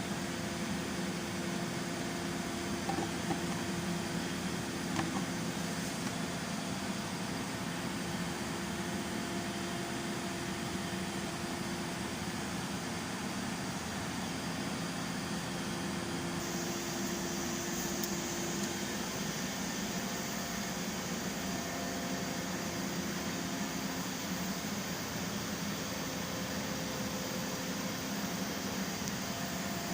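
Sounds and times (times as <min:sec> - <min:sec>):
mechanical hum: 0:00.0 - 0:29.9.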